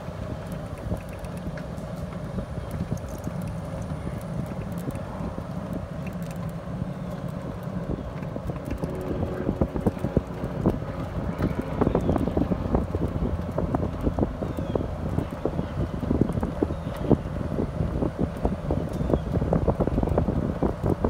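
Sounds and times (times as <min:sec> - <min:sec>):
golf cart motor hum: 0:00.0 - 0:21.0
wind buffeting microphone: 0:00.0 - 0:21.0.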